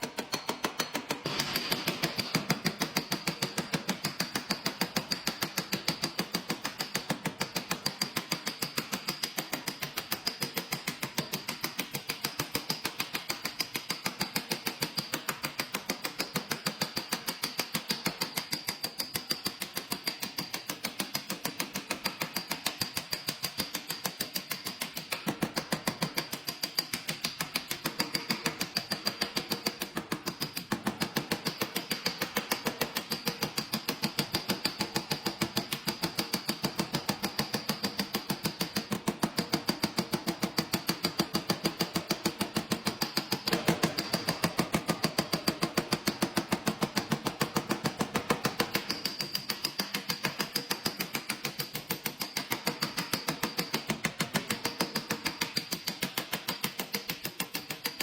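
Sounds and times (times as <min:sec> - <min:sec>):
tool tapping car body panel: 0:00.0 - 0:58.0.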